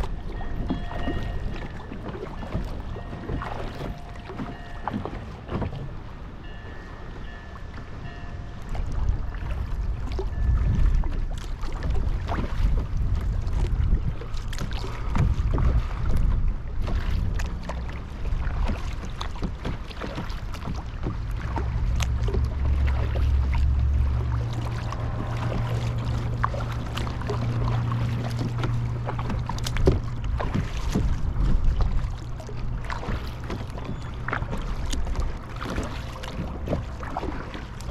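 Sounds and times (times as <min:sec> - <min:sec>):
low wind rumble: 0:00.0 - 0:37.9
water lapping against a kayak: 0:00.0 - 0:37.9.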